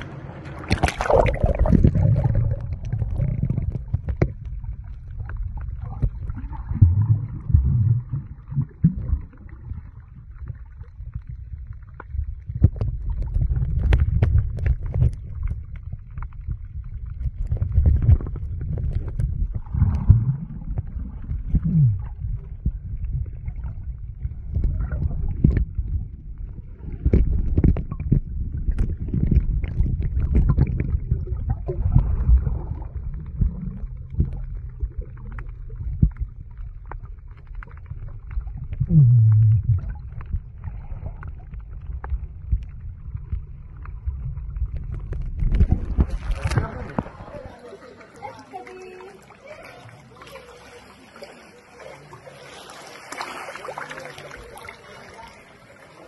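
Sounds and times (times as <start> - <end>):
underwater rumble of moving water: 0.0 - 56.0.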